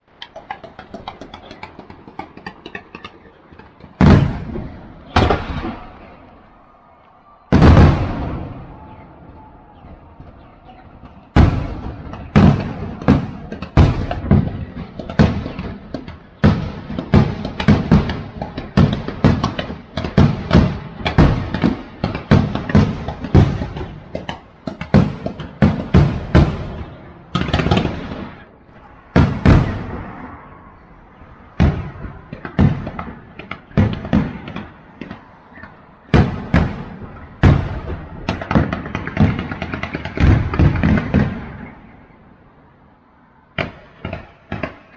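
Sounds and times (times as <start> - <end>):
fireworks bangs echoing: 0.1 - 42.3, 43.5 - 44.9.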